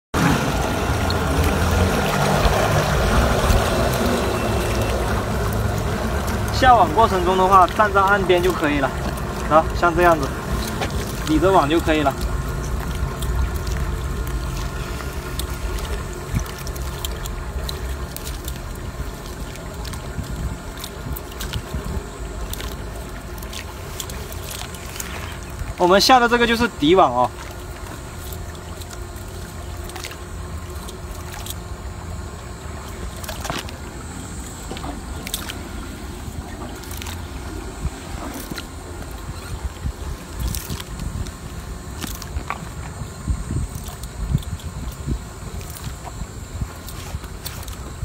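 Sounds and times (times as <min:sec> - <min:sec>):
steady low rumble: 0:00.1 - 0:48.0
net and floats rustling: 0:00.2 - 0:48.0.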